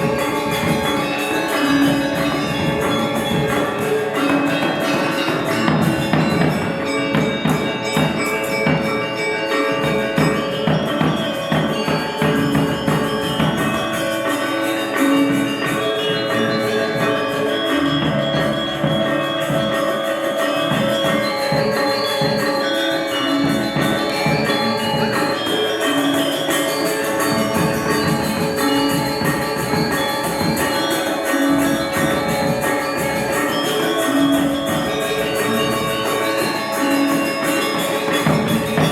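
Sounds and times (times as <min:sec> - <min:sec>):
metallophones and gongs ringing: 0:00.0 - 0:38.9
steady drum strokes: 0:00.0 - 0:38.9.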